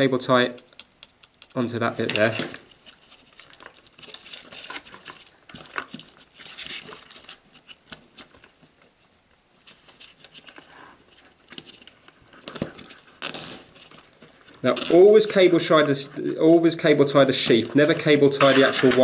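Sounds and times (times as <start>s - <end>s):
plastic rustling and scraping: 0.6s - 19.0s.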